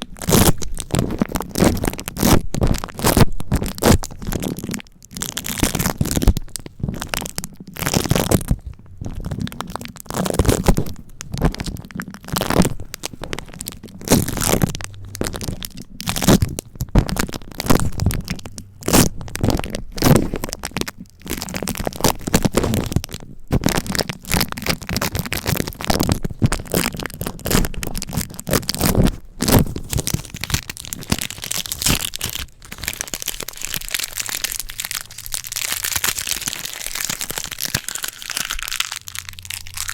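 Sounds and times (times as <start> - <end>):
adhesive tape crackling: 0.0 - 39.9.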